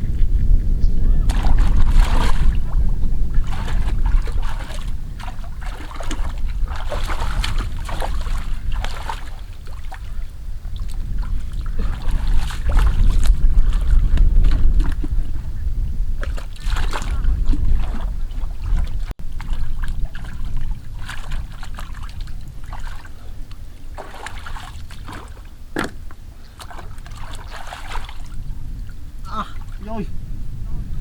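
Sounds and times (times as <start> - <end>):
wind rumble on microphone: 0.0 - 31.0
water sloshing and splashing: 1.1 - 30.0.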